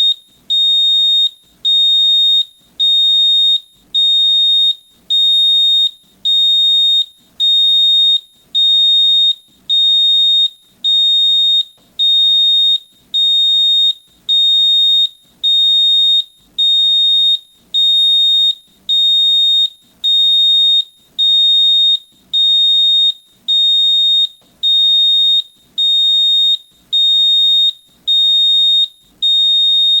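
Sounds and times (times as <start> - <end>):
gas alarm high-pitched beeps: 0.0 - 30.0.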